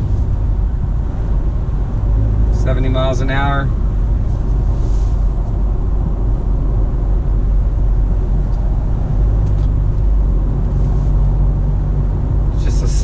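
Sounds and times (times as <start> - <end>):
low exhaust rumble: 0.0 - 13.0
road noise: 0.0 - 13.0.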